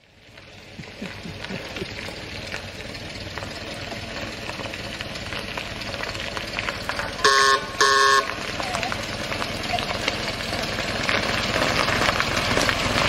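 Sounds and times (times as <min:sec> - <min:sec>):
old car engine running slowly: 0:00.0 - 0:13.0
tyres crunching on gravel: 0:00.0 - 0:13.0.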